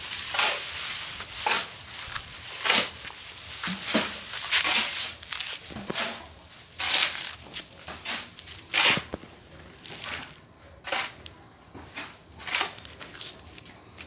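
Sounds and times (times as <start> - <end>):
footsteps scuffing on gravel: 0.0 - 10.4, 11.1 - 14.0.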